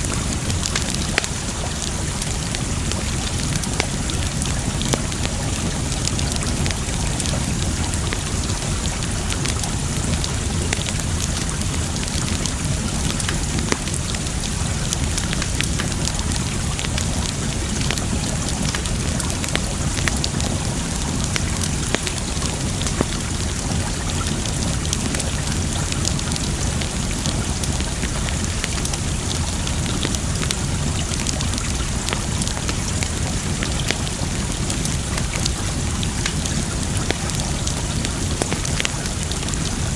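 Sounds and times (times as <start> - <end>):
campfire crackling and popping: 0.0 - 39.9
flowing water rushing: 0.0 - 39.9.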